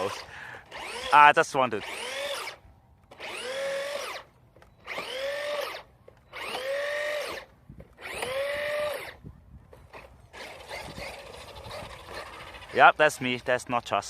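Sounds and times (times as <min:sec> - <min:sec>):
electric motor whining: 0:00.0 - 0:13.5.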